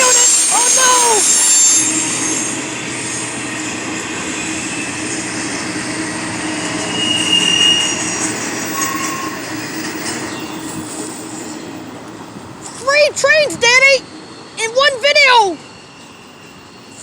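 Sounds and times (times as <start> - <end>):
train wheel squeal: 0.0 - 17.0
train wheels rumbling on rails: 0.0 - 17.0.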